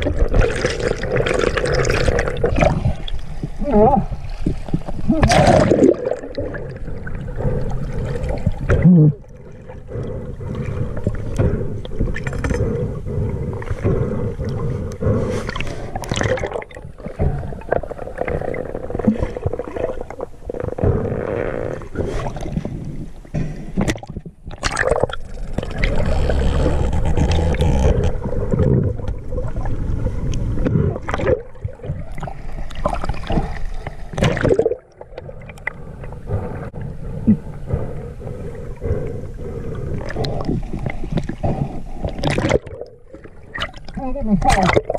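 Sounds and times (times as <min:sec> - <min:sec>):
water churning underwater: 0:00.0 - 0:44.9.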